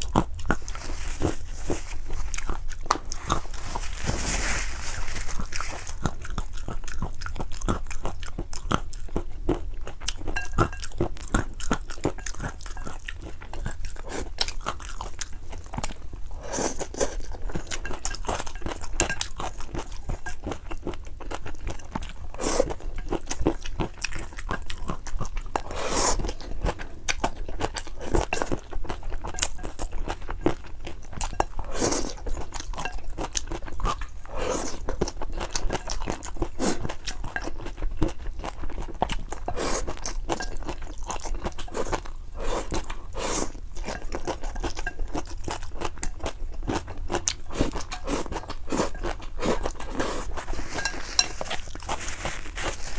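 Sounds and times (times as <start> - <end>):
person chewing and crunching noodles: 0.0 - 52.9.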